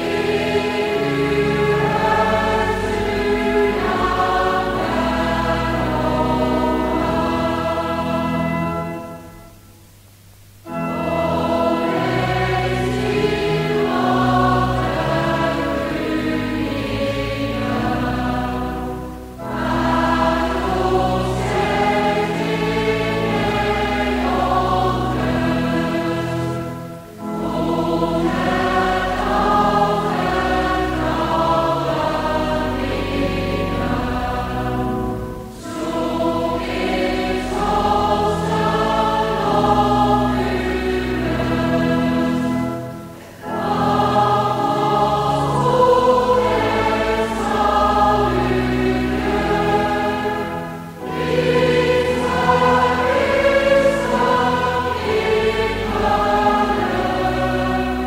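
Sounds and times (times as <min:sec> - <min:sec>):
congregation singing slowly: 0:00.0 - 0:58.0.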